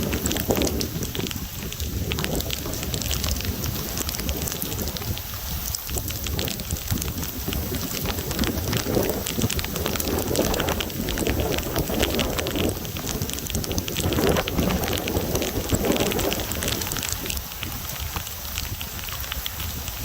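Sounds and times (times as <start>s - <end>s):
gusting wind rumble: 0.0s - 20.0s
heavy rain pouring: 0.0s - 20.0s
raindrops ticking near microphone: 0.0s - 20.0s.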